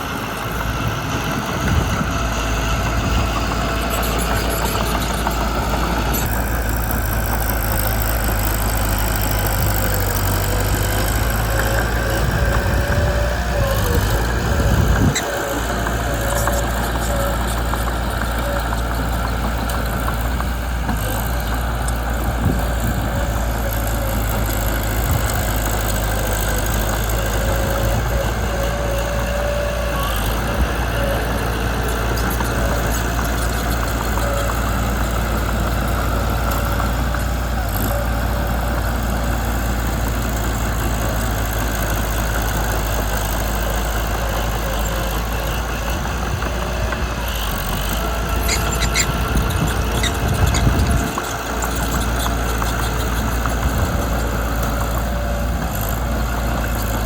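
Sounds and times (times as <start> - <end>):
bulldozer engine droning: 0.0 - 57.0.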